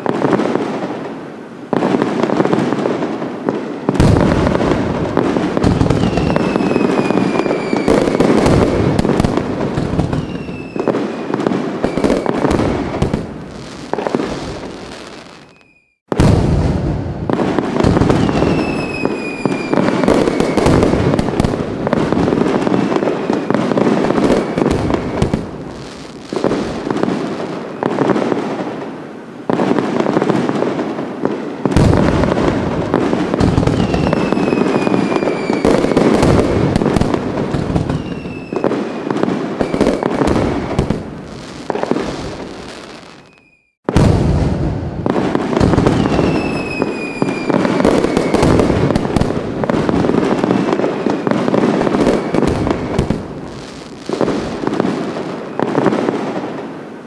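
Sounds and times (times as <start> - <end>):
fireworks bangs and crackling: 0.0 - 57.0
falling firework whistles: 3.5 - 28.3, 31.3 - 56.6.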